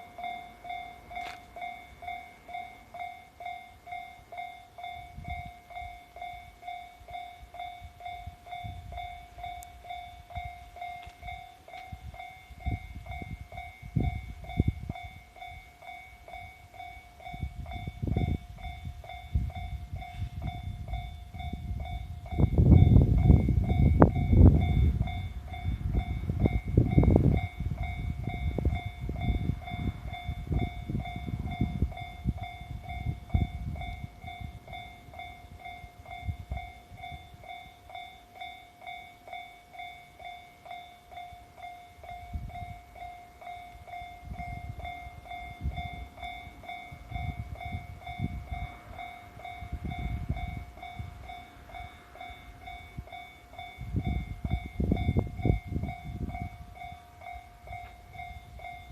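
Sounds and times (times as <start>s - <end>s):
electric train rumbling over rail joints: 0.0s - 58.9s
level crossing warning bell: 0.0s - 58.9s.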